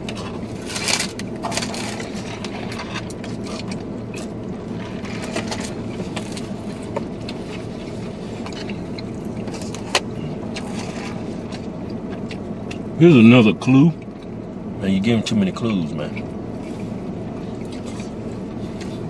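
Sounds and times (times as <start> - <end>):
car cabin hum: 0.0 - 19.0.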